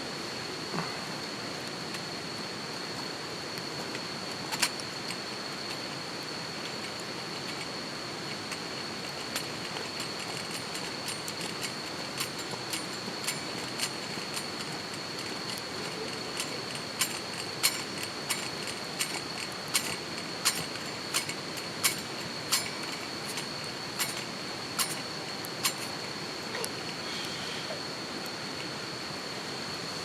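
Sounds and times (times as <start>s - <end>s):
campfire crackling and popping: 1.0s - 27.1s.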